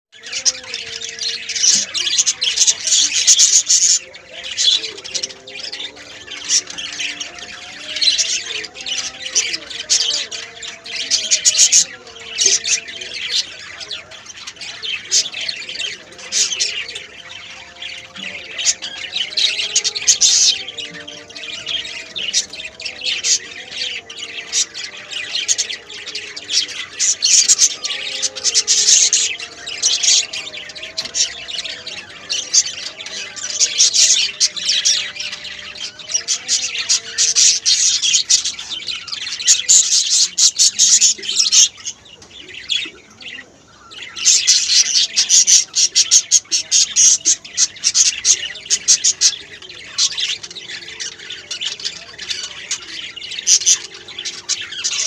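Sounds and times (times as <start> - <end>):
lovebirds chattering and squawking: 0.1 - 55.0.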